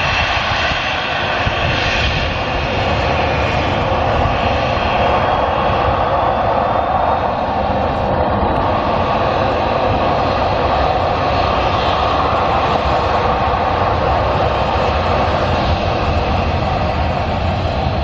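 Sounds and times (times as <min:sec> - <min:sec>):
airliner engines rushing: 0:00.0 - 0:18.0.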